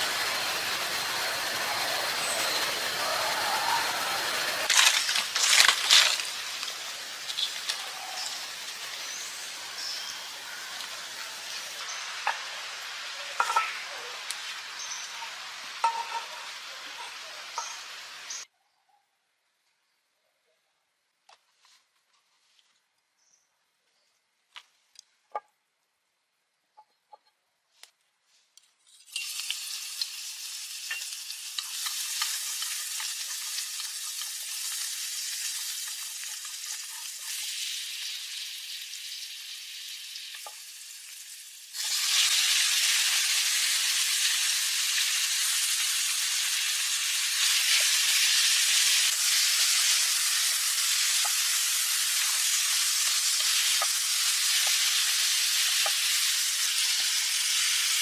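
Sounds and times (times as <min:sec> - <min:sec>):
food sizzling in a pan: 0:00.0 - 0:18.5, 0:28.9 - 0:58.0.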